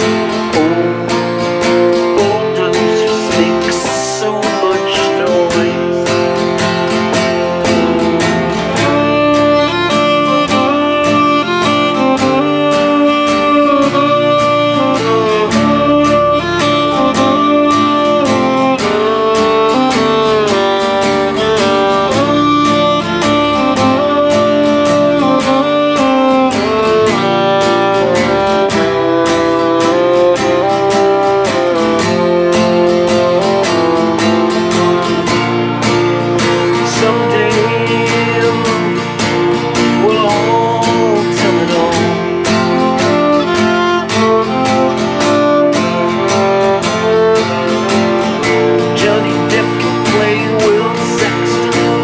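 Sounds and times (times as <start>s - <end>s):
fiddle melody: 0.0s - 52.0s
strummed acoustic guitar: 0.0s - 52.0s.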